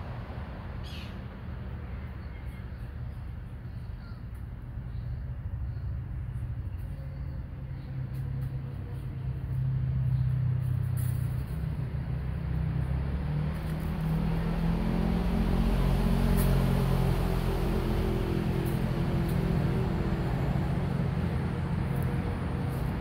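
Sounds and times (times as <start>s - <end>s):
engine low steady hum: 0.0s - 23.0s.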